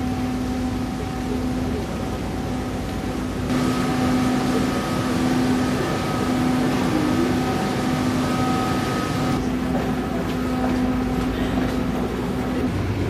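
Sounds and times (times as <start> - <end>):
ship engines humming: 0.0 - 13.0.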